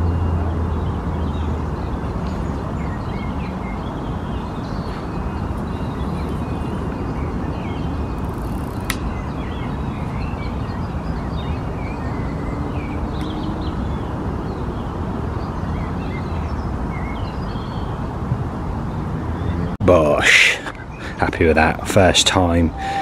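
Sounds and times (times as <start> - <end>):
small birds chirping: 0.0 - 18.2, 18.8 - 23.0.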